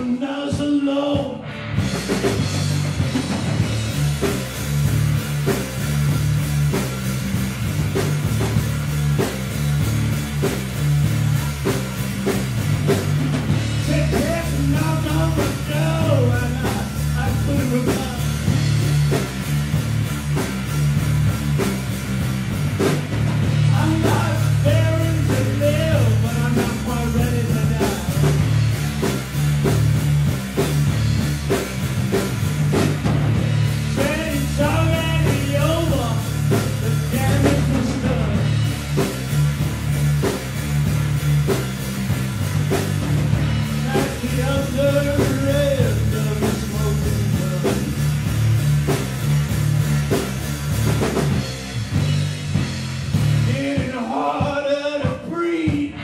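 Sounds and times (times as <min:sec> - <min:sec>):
electric guitars: 0:00.0 - 0:53.5
drum-kit beat: 0:01.2 - 0:56.0.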